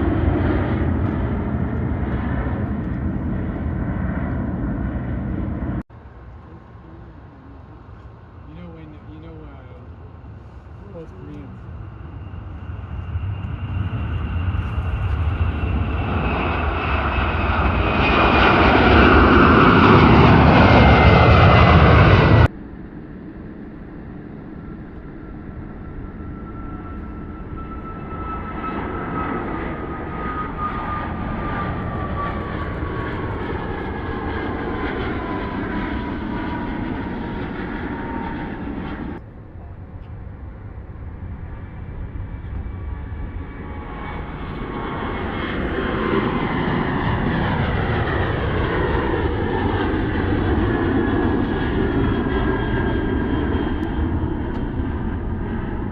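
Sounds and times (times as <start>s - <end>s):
airliner engines whining: 0.0s - 55.9s.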